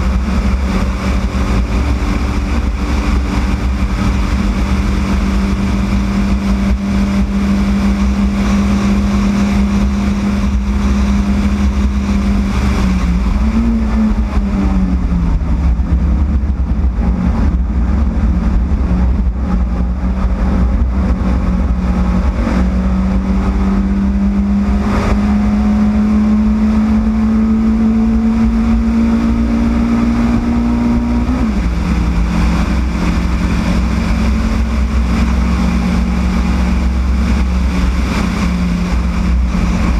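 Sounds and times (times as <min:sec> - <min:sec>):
race car engine at high revs: 0:00.0 - 0:39.9
wind and road noise: 0:00.0 - 0:39.9.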